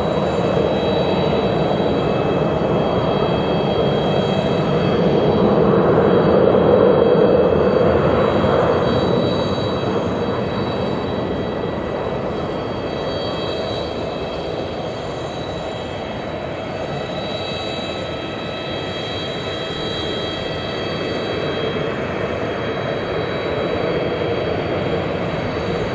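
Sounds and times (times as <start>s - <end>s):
high fan whine: 0.0s - 25.9s
jet engine rush: 0.0s - 25.9s.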